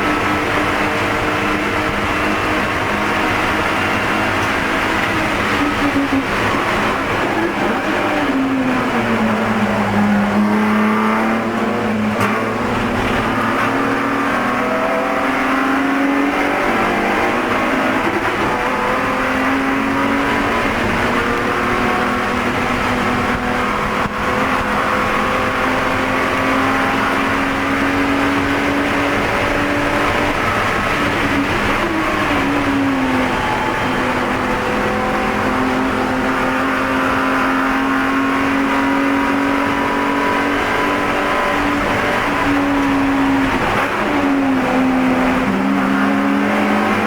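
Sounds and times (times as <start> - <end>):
race car engine revving: 0.0 - 47.0.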